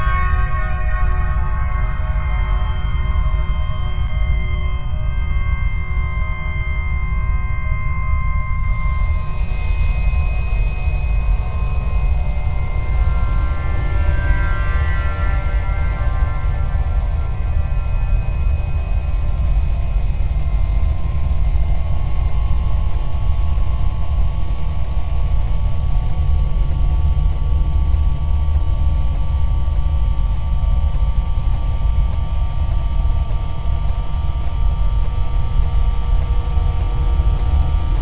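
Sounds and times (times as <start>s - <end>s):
deep rumble drone: 7.2s - 38.0s.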